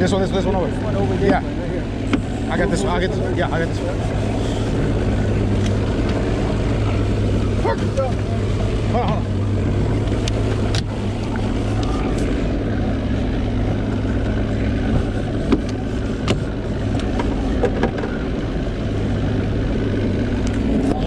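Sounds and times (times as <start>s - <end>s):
outboard motor humming: 0.0s - 21.0s.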